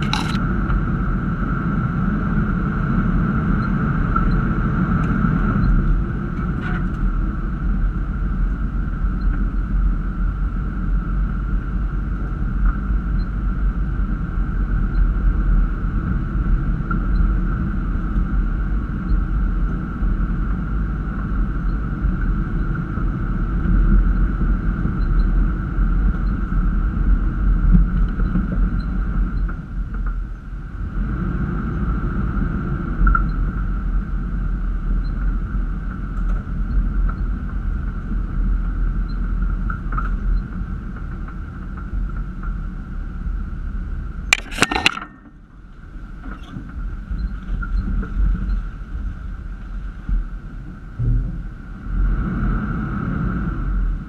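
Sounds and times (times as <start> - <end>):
engine low rumble: 0.0 - 54.0.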